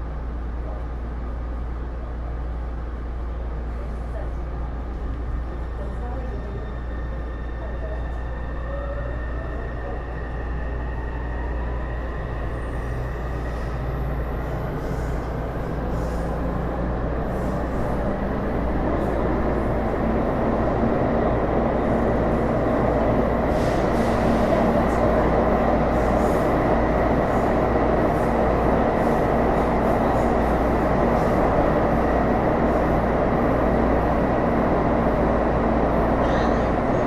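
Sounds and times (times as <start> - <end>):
metro car wheels rumbling on rail: 0.0 - 37.0.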